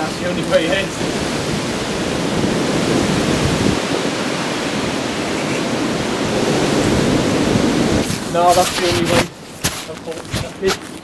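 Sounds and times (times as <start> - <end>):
storm wind and rain: 0.0 - 11.0
wind rumble on microphone: 0.0 - 11.0.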